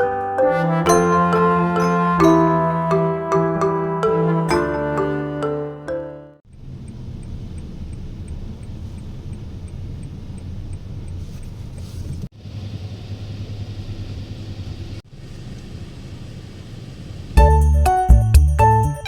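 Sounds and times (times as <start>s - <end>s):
vehicle rumbling: 1.0s - 19.0s.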